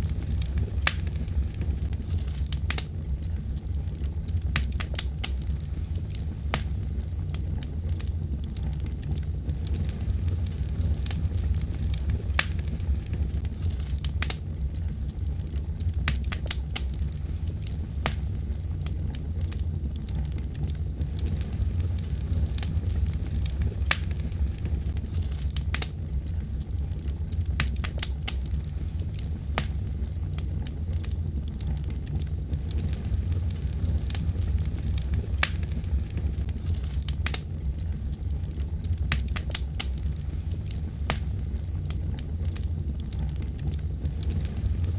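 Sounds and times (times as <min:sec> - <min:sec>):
fire crackling: 0:00.0 - 0:44.9
steady low rumble: 0:00.0 - 0:44.9.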